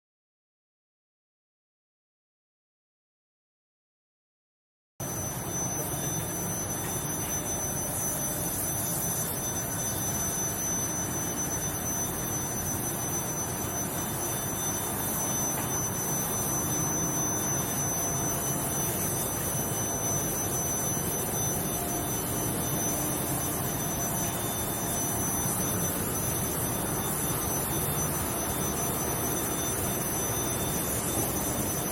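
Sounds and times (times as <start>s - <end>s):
high-pitched whine: 5.0s - 31.9s.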